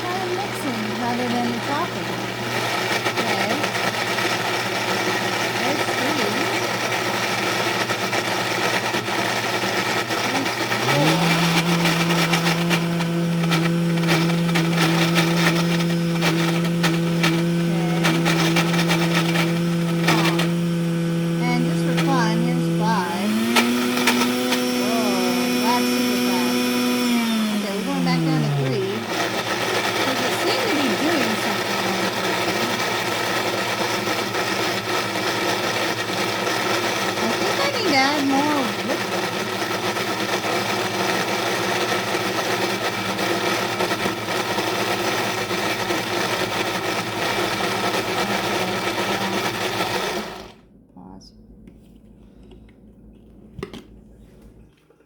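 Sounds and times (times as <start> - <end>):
blender motor running: 0.0 - 50.6.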